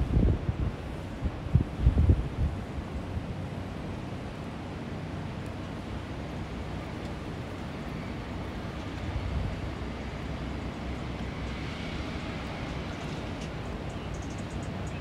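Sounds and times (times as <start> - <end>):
traffic rumble: 0.8 - 15.0.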